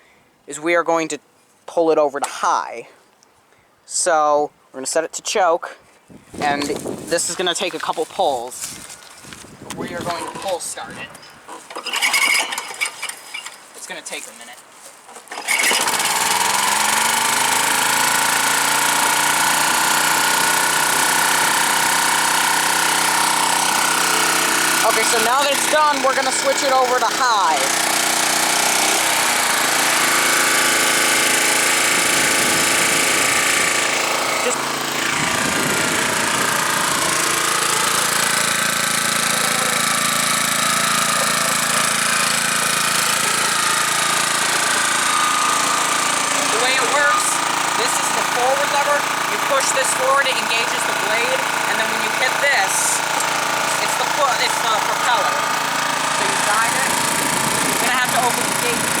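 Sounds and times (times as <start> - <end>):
lawn mower engine running: 6.3 - 14.3, 15.1 - 59.0.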